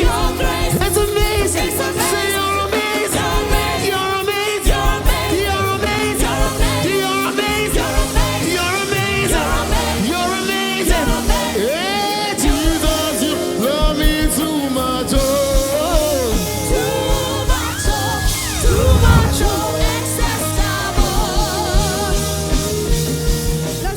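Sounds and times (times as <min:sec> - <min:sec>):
person singing gospel: 0:00.0 - 0:23.9.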